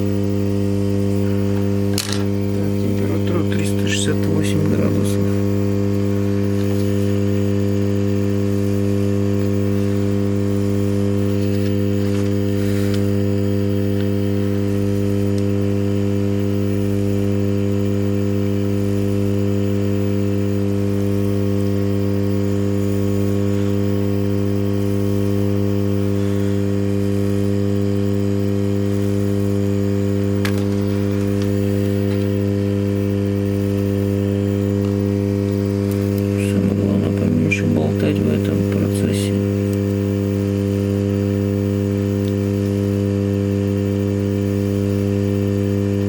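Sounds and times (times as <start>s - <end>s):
hot air station blowing: 0.0s - 46.0s.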